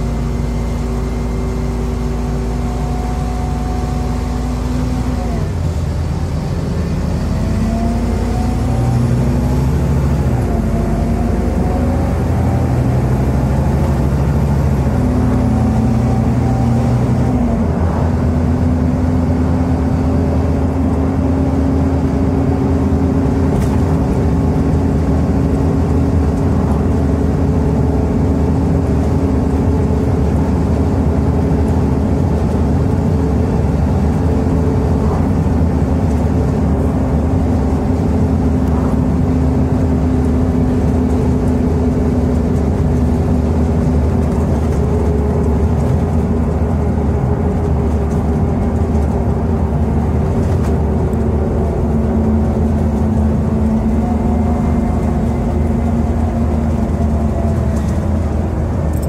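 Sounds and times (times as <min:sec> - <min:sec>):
bus engine revving: 0:00.0 - 0:59.0
road and tyre noise: 0:00.0 - 0:59.0.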